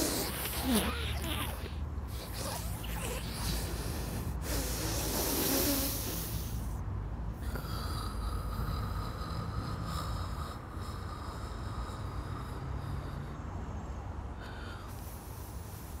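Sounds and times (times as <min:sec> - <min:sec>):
man breathing hard: 0:00.0 - 0:16.0.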